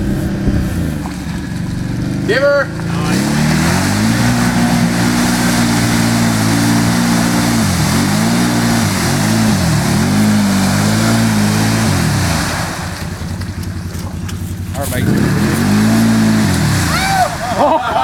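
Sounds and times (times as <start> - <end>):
atv engine revving: 0.0 - 18.0
mud and water spraying: 0.0 - 18.0
tyres spinning in mud: 0.0 - 18.0.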